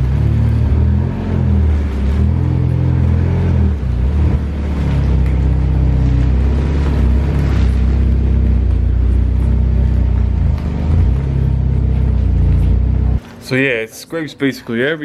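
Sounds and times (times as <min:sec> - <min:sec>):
car engine running at low revs: 0:00.0 - 0:13.2.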